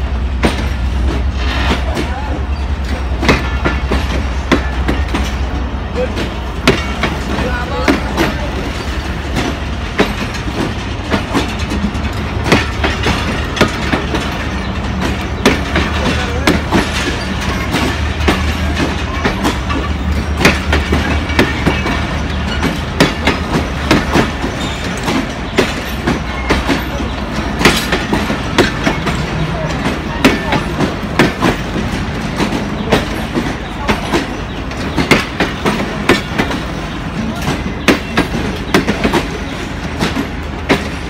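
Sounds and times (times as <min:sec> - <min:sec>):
train wheels rumbling on rails: 0:00.0 - 0:41.0
wheels clicking over rail joints: 0:00.4 - 0:41.0.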